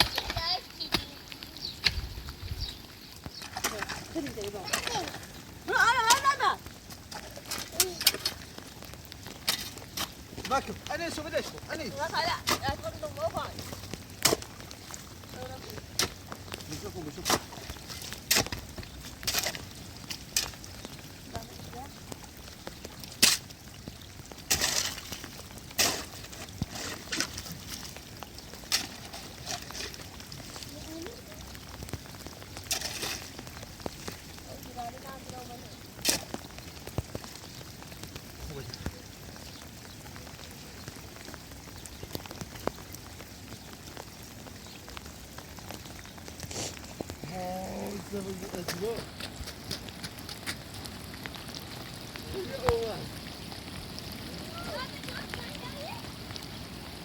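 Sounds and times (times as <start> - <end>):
rain falling: 0.0 - 57.0
raindrops clicking close by: 0.0 - 57.0.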